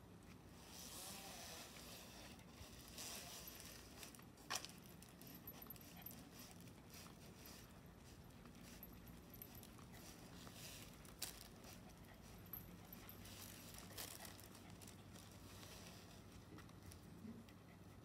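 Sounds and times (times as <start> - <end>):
faint background hum: 0.0 - 18.0.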